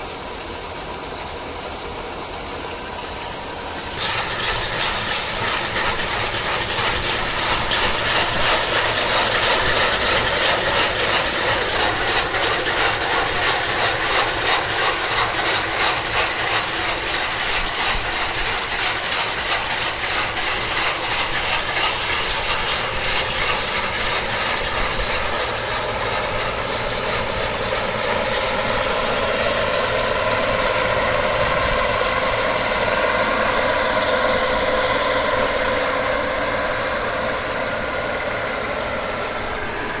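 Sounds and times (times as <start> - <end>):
diesel engine under load: 0.0 - 40.0
threshing machinery rattle: 2.8 - 40.0.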